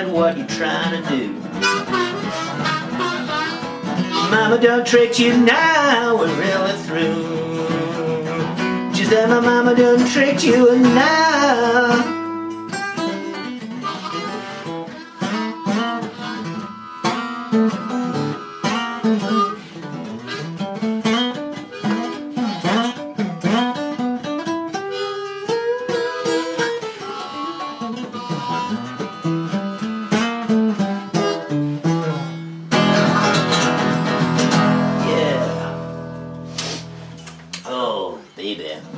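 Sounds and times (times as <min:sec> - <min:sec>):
picked acoustic guitar: 0:00.0 - 0:38.9
harmonica bending notes: 0:00.5 - 0:37.3.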